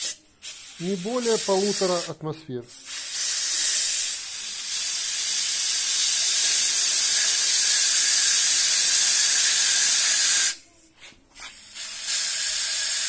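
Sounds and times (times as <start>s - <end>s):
compressed air hissing: 0.0s - 10.6s, 11.4s - 13.0s.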